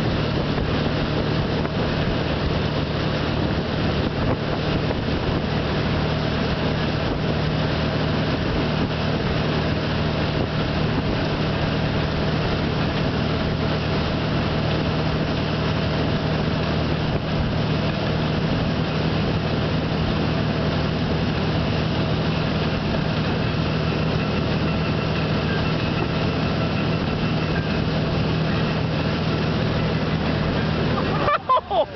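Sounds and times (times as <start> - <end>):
boat engine humming: 0.0 - 31.9
rushing water: 0.0 - 31.9
wind: 0.0 - 31.9.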